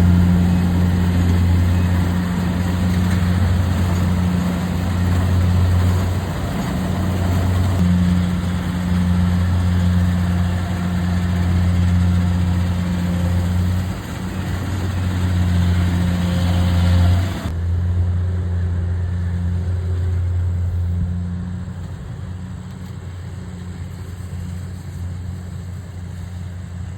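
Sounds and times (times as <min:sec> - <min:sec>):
harvester engine low hum: 0:00.0 - 0:26.9.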